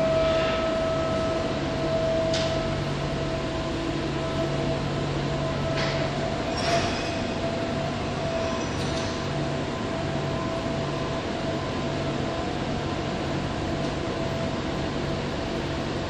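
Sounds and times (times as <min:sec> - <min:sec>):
train hum with high whine: 0:00.0 - 0:16.0.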